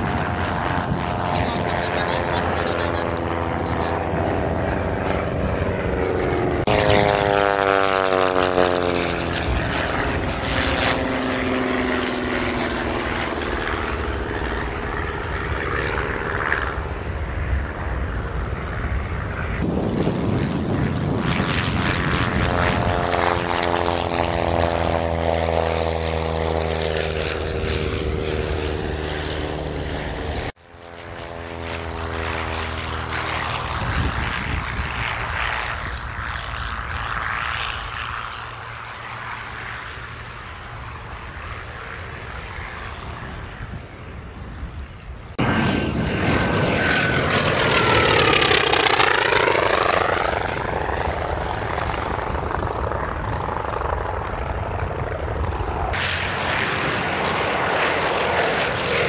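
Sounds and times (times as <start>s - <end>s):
propeller aircraft flying past: 0.0s - 59.0s.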